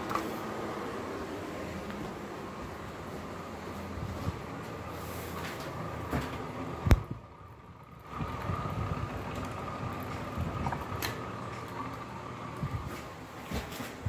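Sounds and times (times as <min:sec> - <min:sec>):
ceiling fan humming and whining: 0:00.0 - 0:14.0.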